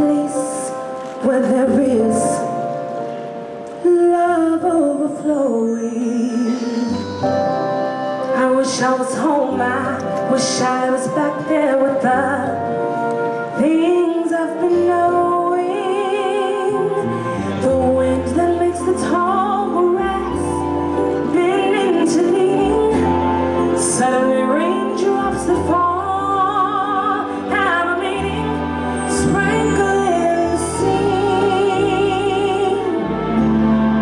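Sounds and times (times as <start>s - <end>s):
woman singing with vibrato: 0.0s - 2.7s, 3.8s - 12.9s, 13.5s - 34.0s.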